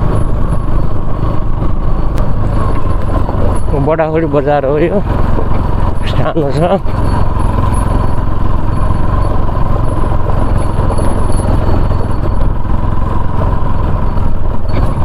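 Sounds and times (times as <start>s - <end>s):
motorcycle running: 0.0s - 15.0s.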